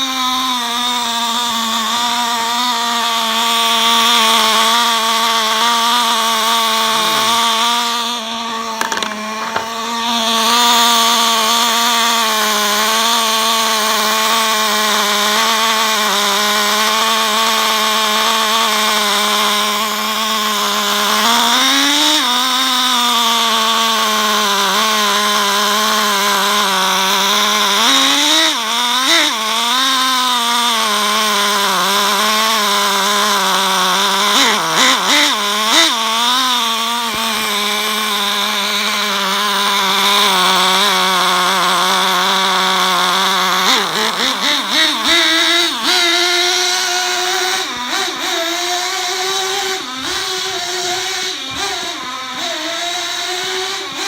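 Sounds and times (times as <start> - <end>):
small nitro engine buzzing: 0.0 - 54.0.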